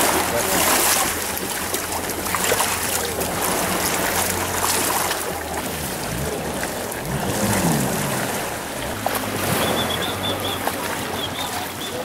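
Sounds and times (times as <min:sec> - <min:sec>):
outboard engines idling: 0:00.0 - 0:12.0
shallow sea water washing: 0:00.0 - 0:12.0.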